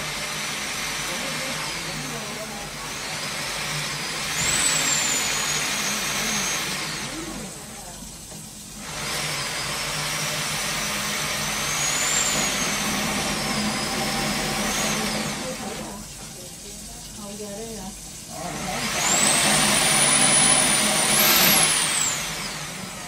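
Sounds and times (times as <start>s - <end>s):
drain cleaning machine motor whining: 0.0s - 23.0s.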